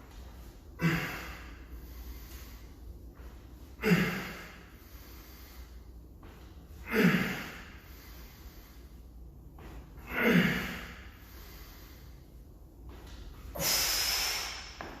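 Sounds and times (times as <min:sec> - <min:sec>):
man breathing out with exertion: 0:00.5 - 0:12.4, 0:13.4 - 0:15.0.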